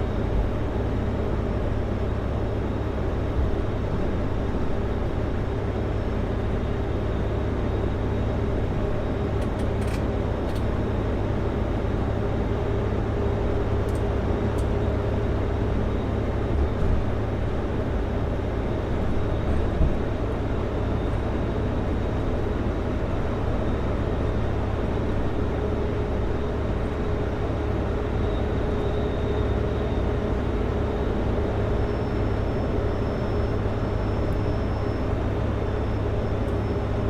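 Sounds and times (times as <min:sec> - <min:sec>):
faint steady whine: 0:00.0 - 0:37.0
road noise: 0:00.0 - 0:37.0
truck diesel engine drone: 0:00.0 - 0:37.0.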